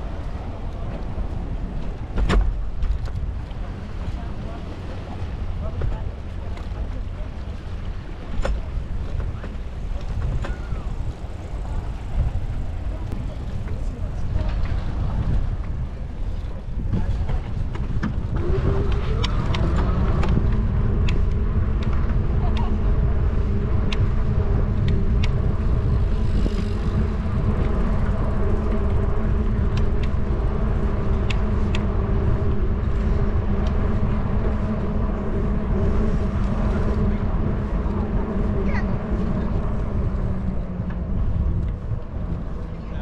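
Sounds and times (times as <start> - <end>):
constant hum: 0.0 - 43.0
wind and tyre rumble: 0.0 - 43.0.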